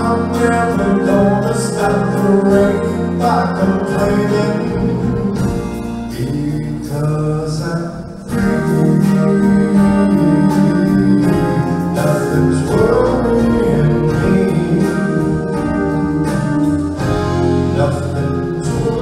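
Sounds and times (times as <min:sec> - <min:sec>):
drum kit with cymbals: 0:00.0 - 0:19.0
electric guitar: 0:00.0 - 0:19.0
keyboard: 0:00.0 - 0:19.0
man singing: 0:00.0 - 0:19.0.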